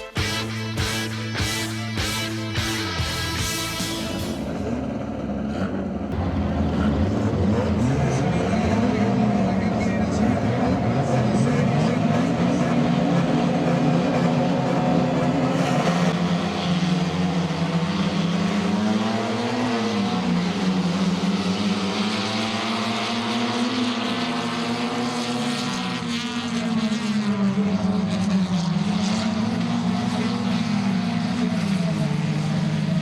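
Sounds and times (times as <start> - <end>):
racing engines revving: 0.0 - 33.0.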